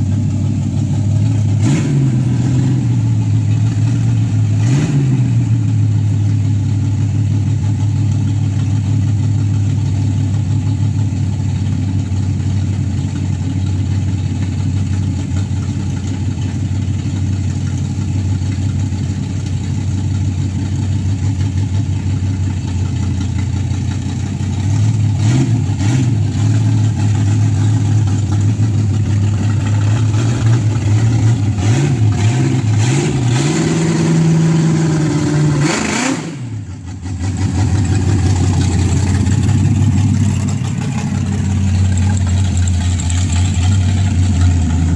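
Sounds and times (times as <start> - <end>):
car engine running and revving: 0.0 - 44.9.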